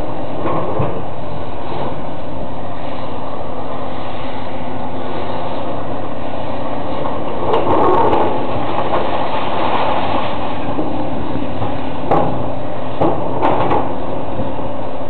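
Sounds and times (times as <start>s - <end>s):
demolition machine diesel engine: 0.0s - 15.0s.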